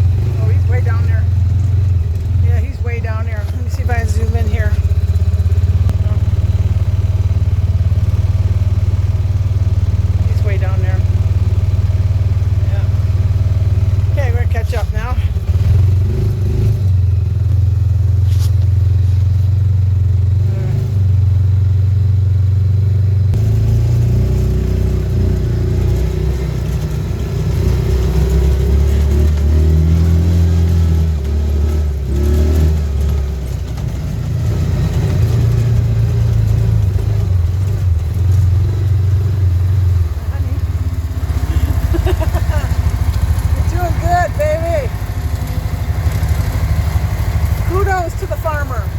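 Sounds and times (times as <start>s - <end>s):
farm vehicle engine running: 0.0s - 48.9s.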